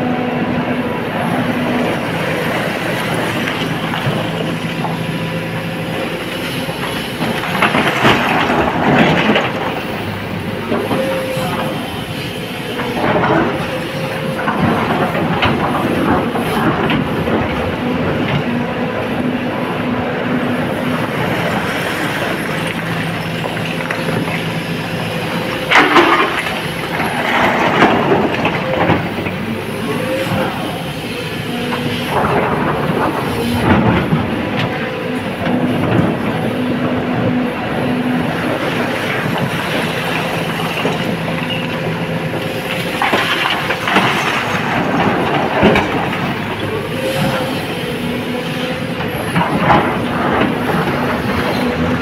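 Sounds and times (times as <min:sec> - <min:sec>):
excavator engine droning: 0:00.0 - 0:52.0.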